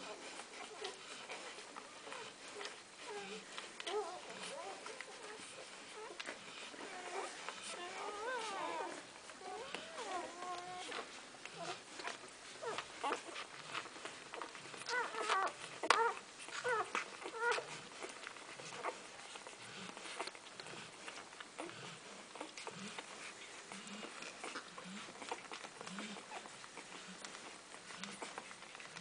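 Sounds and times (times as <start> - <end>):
puppies squeaking and whimpering: 0.0 - 29.0
puppies suckling wet clicks: 0.0 - 29.0.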